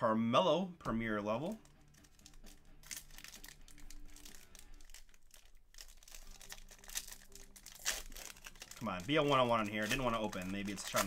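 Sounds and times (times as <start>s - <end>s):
foil wrapper crinkling and tearing: 1.4s - 11.0s.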